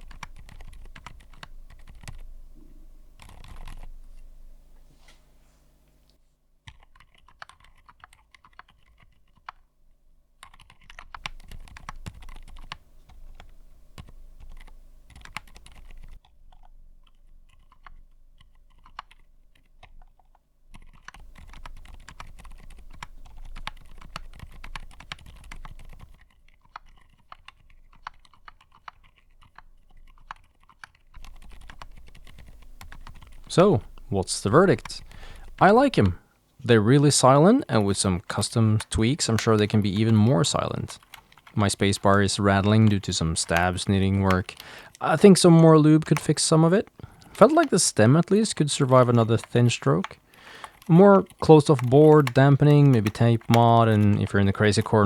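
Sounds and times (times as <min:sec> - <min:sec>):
soft mechanical keyboard typing: 0:00.0 - 0:55.0.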